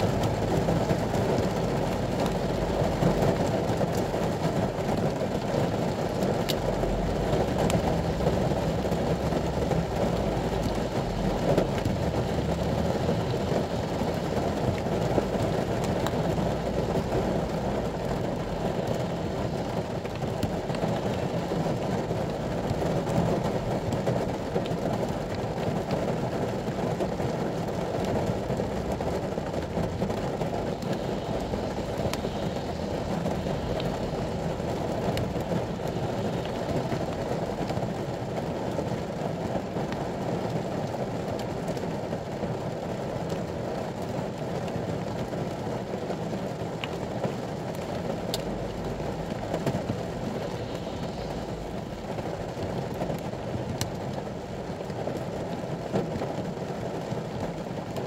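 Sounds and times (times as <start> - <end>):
engine rumble inside cabin: 0.0 - 43.7, 44.3 - 57.0
rain: 0.0 - 58.0.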